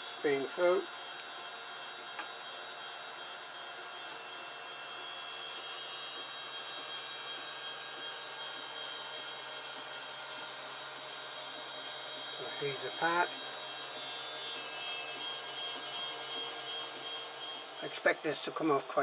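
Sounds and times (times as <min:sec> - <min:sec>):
cooling fans whirring: 0:00.0 - 0:19.0.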